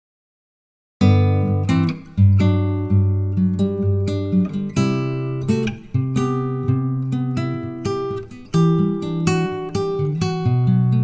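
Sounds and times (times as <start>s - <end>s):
plucked string music: 1.0s - 11.0s.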